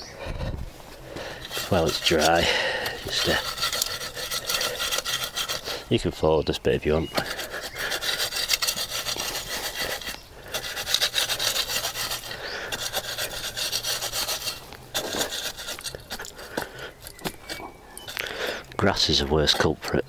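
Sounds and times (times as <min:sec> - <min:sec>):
garden hoe scraping dry soil: 0:00.4 - 0:20.0.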